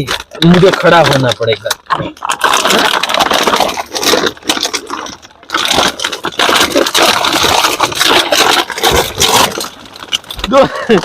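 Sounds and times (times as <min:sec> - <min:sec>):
plastic bottles scraping and crackling: 0:00.0 - 0:11.0.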